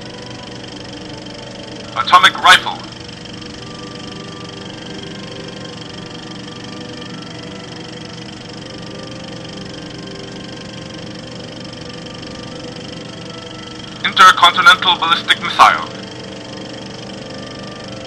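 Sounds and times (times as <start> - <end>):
steady droning hum with hiss: 0.0 - 18.0.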